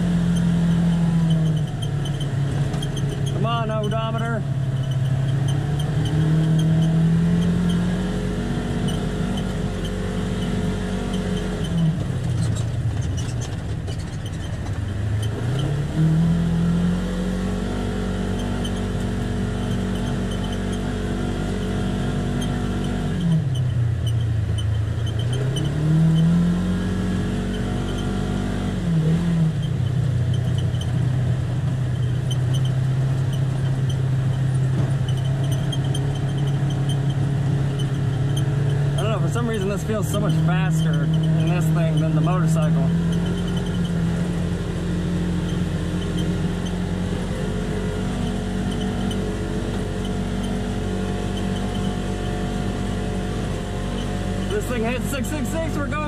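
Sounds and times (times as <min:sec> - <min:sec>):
vehicle engine heard from cab: 0:00.0 - 0:56.0.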